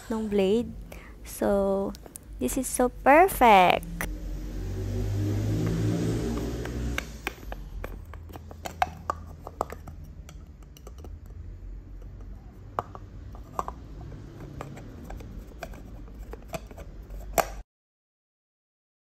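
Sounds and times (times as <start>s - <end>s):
low background hum: 0.0s - 17.6s.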